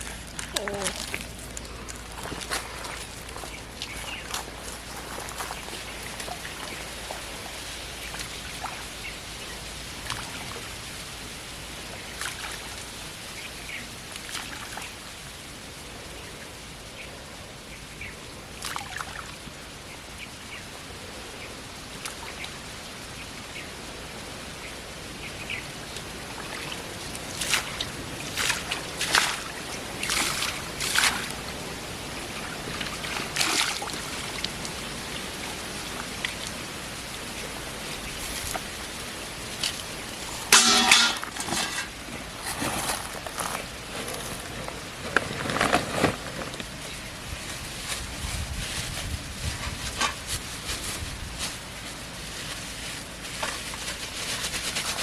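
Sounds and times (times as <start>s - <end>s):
water trickling and splashing: 0.0s - 16.8s, 18.3s - 55.0s
steady hiss: 0.0s - 55.0s.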